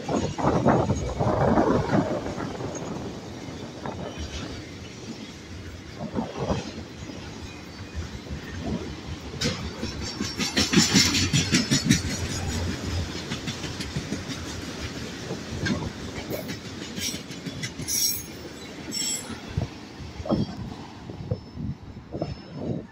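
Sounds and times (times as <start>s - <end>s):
freight train wheels clacking: 0.0s - 22.9s.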